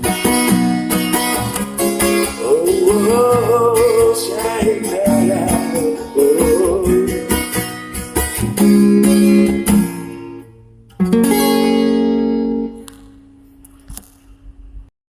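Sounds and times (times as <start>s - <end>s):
acoustic guitar strumming: 0.0s - 13.9s.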